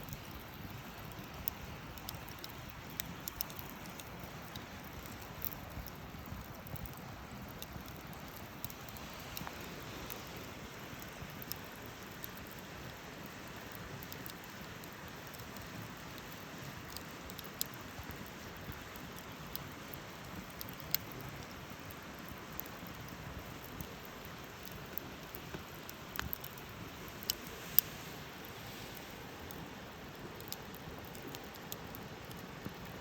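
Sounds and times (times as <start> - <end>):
campfire crackling and hissing: 0.0 - 33.0.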